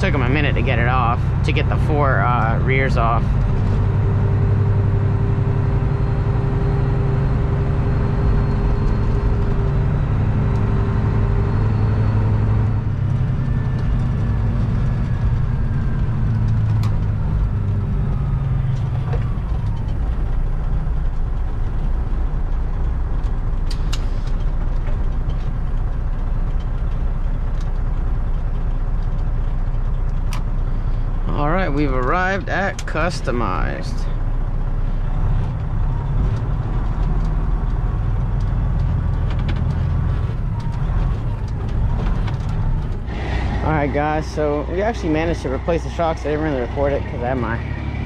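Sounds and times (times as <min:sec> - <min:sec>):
road noise: 0:00.0 - 0:48.0
truck diesel engine running: 0:00.0 - 0:48.0.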